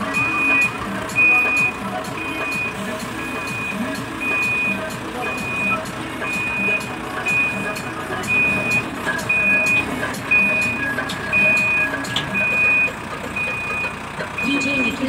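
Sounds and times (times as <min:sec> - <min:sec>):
diesel engine running: 0:00.0 - 0:15.0
reversing alarm beeping: 0:00.0 - 0:15.0.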